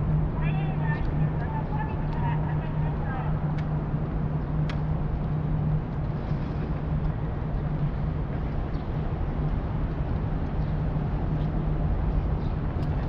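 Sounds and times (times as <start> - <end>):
city background noise: 0.0 - 13.0
constant low hum: 0.0 - 13.0.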